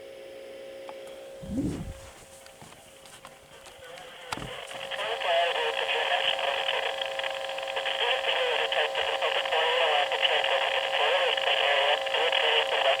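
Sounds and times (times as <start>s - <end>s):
radio hiss: 1.4s - 2.3s, 3.5s - 13.0s.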